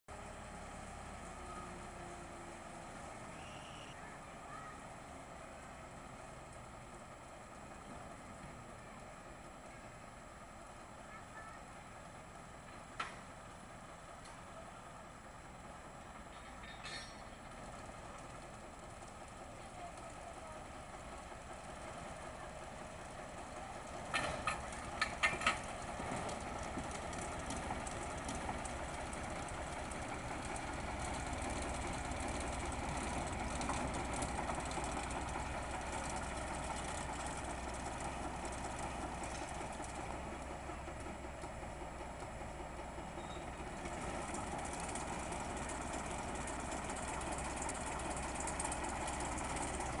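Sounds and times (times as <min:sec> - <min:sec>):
miniature train engine hum: 0:00.1 - 0:50.0
wheels rumbling on rails: 0:00.1 - 0:50.0.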